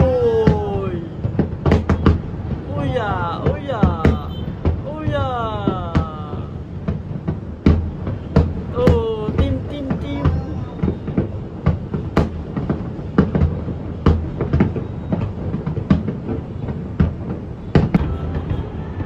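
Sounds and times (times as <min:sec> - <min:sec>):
distant fireworks bangs: 0:00.0 - 0:19.0.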